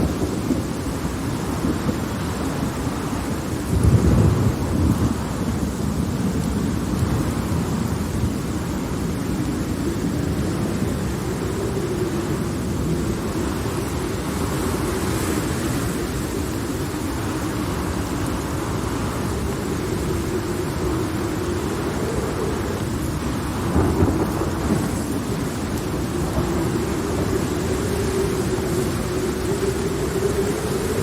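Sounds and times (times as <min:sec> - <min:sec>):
heavy rain: 0:00.0 - 0:31.0
rolling thunder rumble: 0:00.0 - 0:31.0.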